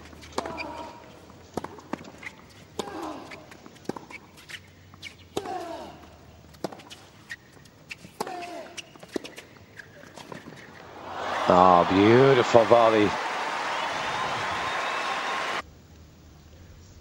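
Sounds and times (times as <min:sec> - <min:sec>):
racquets hitting tennis ball: 0:00.0 - 0:14.0.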